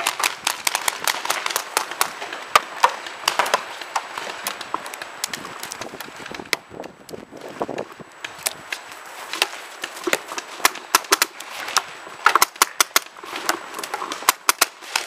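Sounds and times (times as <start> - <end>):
paintball markers firing: 0.0 - 7.0, 8.2 - 15.0.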